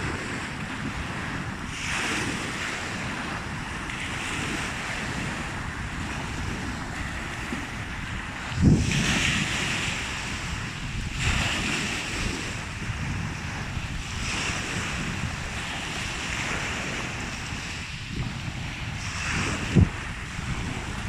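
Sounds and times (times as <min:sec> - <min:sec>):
sea waves breaking: 0:00.0 - 0:21.0
wind rumbling on microphone: 0:00.0 - 0:21.0.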